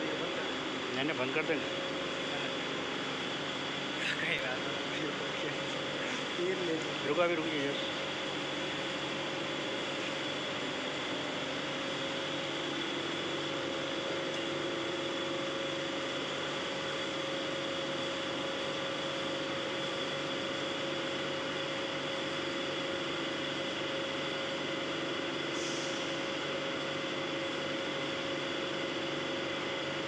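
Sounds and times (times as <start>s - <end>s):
steady machine hum with hiss: 0.0s - 30.0s.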